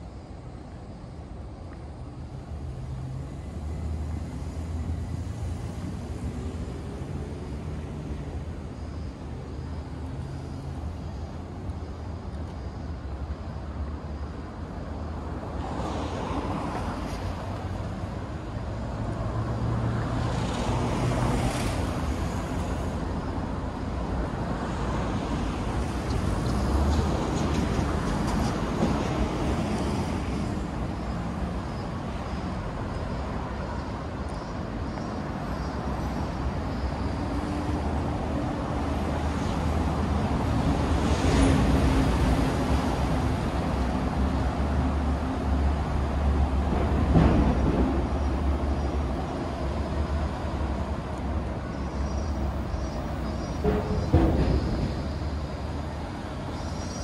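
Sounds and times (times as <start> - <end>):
traffic rumble of engines and tyres: 0.0 - 57.0
vehicles passing: 0.0 - 57.0.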